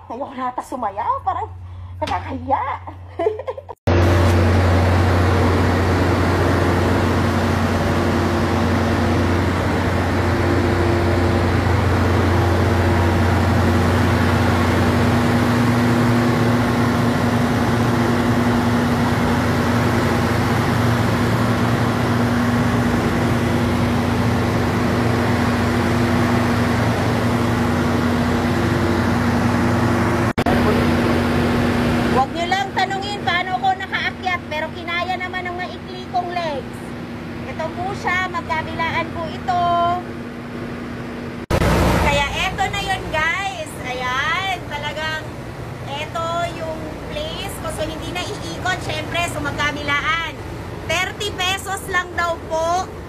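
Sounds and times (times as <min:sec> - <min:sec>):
diesel locomotive engine humming: 0:03.9 - 0:53.0.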